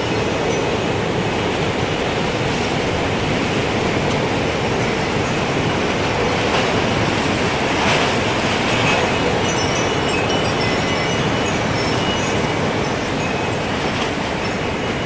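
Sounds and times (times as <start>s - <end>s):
faint wind chimes: 0.0s - 15.0s.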